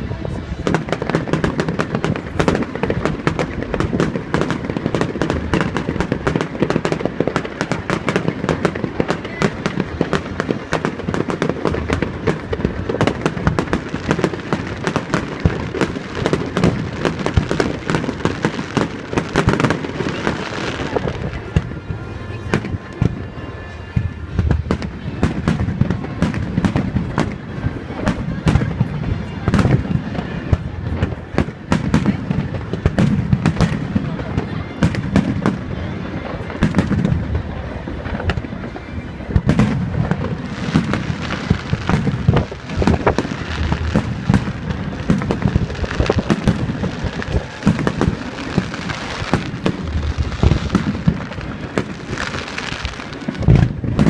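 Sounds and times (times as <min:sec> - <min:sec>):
fireworks bursts and crackles: 0:00.0 - 0:54.0
wind buffeting microphone: 0:00.0 - 0:54.0.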